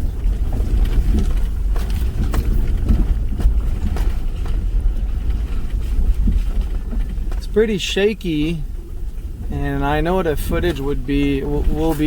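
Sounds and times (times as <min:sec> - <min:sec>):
car engine and tyres rumbling: 0:00.0 - 0:12.0
knocks and rattles over bumps: 0:00.0 - 0:12.0.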